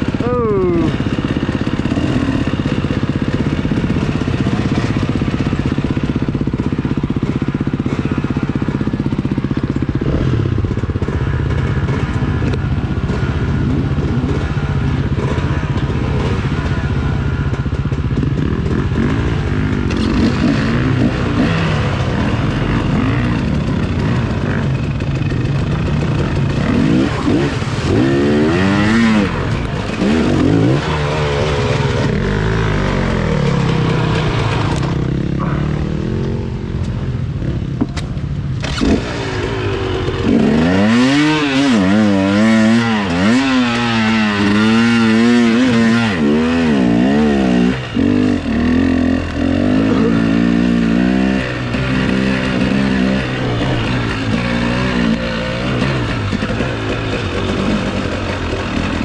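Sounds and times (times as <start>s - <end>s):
dirt bike engine revving: 0.0s - 37.8s, 38.5s - 59.0s.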